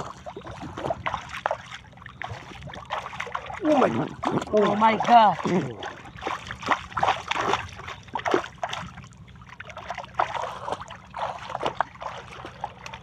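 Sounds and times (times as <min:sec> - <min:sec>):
faint low hum: 0:00.0 - 0:13.0
water splashing and sloshing: 0:00.0 - 0:13.0.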